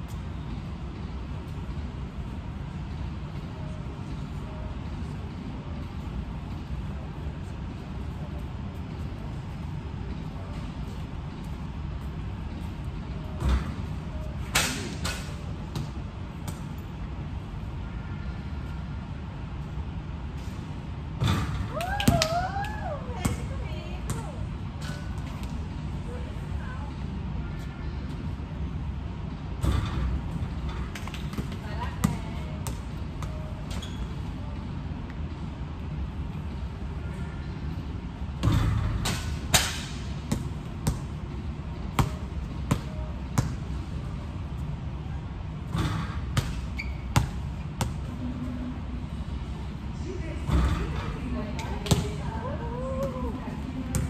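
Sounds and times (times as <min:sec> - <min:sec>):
store noise hum: 0:00.0 - 0:54.0.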